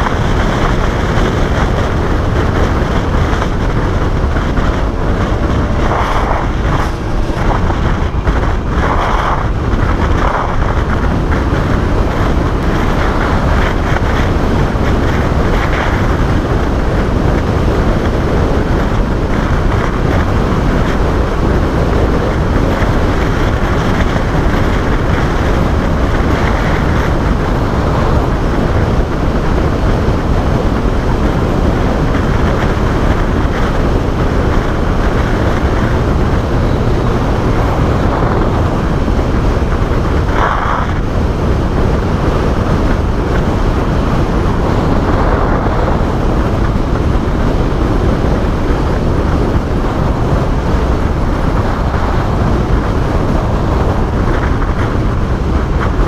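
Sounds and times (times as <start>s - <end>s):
motorcycle engine drone: 0.0s - 56.0s
wind rush: 0.0s - 56.0s.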